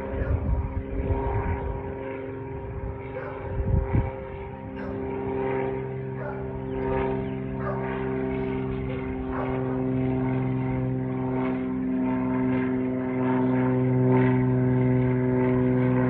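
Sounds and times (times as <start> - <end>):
propeller airplane droning: 0.0 - 16.0.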